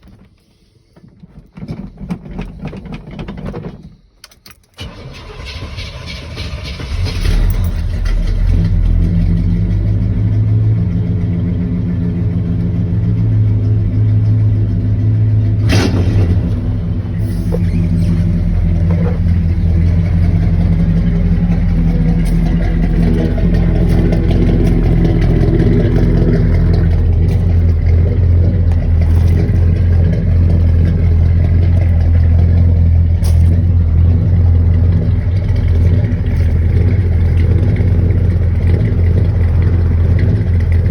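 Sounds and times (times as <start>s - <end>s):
engine idling: 4.8s - 40.9s.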